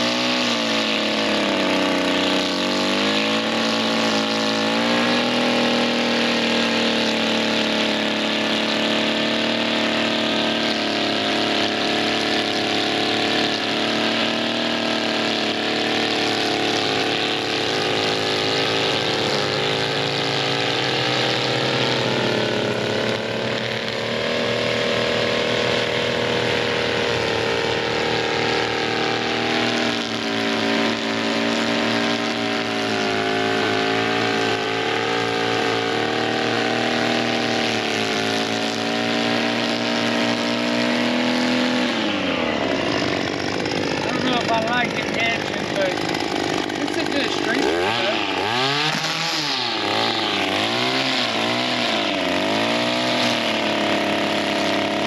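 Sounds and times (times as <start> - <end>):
string trimmer engine running: 0.0 - 55.0.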